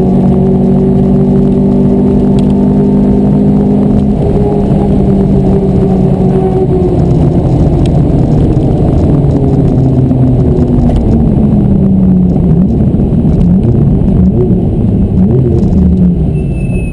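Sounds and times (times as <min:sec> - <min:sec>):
car engine running at speed: 0:00.0 - 0:16.9
wind and road noise: 0:00.0 - 0:16.9.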